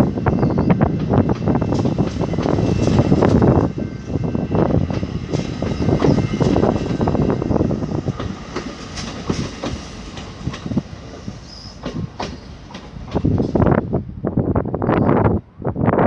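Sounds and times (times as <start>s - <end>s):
train wheels clicking over rail joints: 0.0s - 13.7s
rail rumble: 0.0s - 16.0s.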